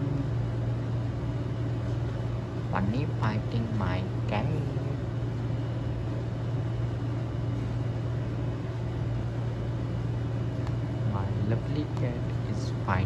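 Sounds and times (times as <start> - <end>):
steady low drone: 0.0 - 13.0.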